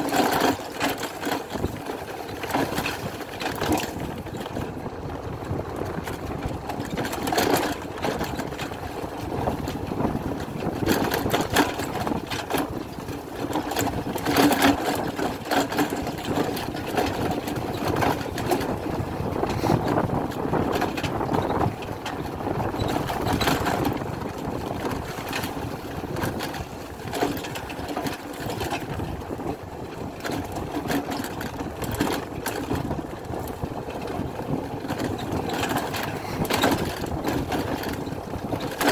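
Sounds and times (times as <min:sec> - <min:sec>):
two-stroke motorcycle engine running: 0:00.0 - 0:38.9.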